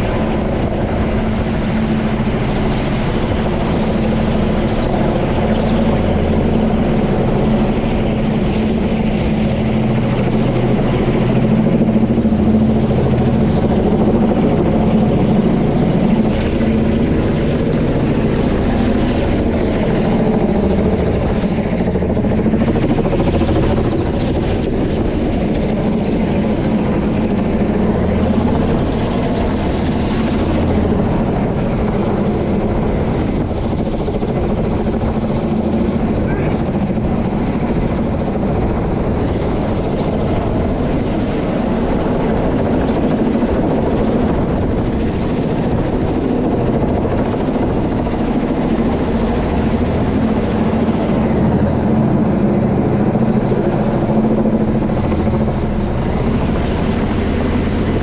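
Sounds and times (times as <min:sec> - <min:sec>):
helicopter drone overhead: 0:00.0 - 0:58.0.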